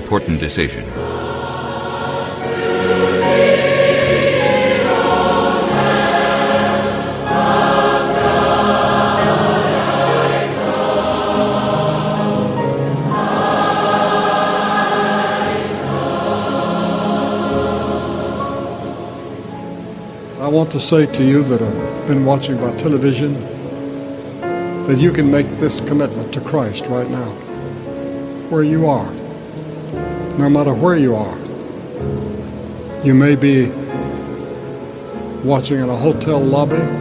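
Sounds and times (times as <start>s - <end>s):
large choir singing a hymn: 0.0s - 37.0s.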